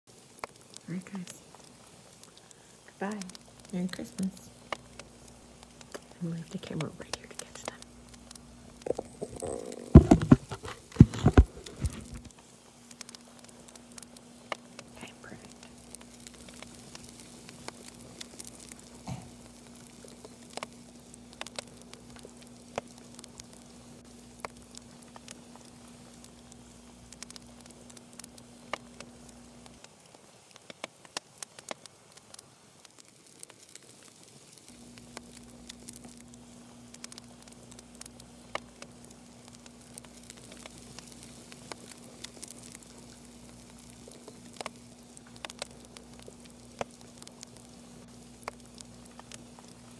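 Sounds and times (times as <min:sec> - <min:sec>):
faint clicks and ticks: 0:00.1 - 0:49.9.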